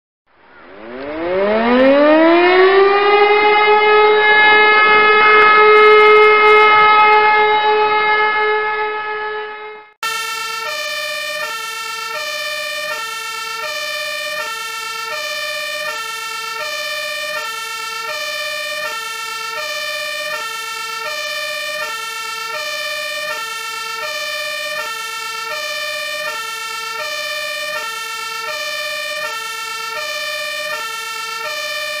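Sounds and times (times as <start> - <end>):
fire engine two-tone siren: 0.4 - 32.0.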